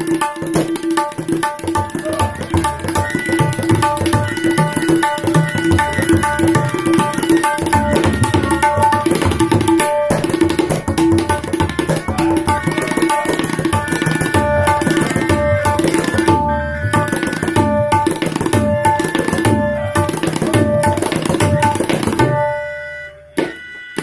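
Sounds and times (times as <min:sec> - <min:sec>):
tabla drumming: 0:00.0 - 0:24.0.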